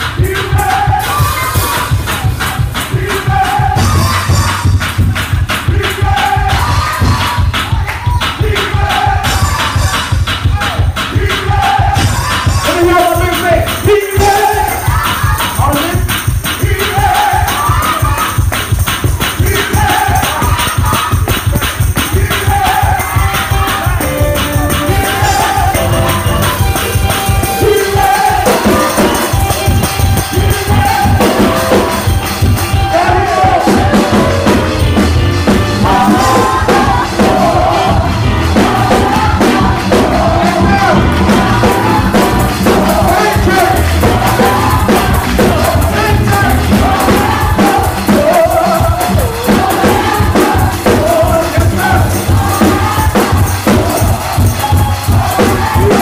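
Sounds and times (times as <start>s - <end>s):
bass: 0.0s - 56.0s
keyboard: 0.0s - 56.0s
shaken percussion beat: 0.0s - 56.0s
voices singing: 0.0s - 56.0s.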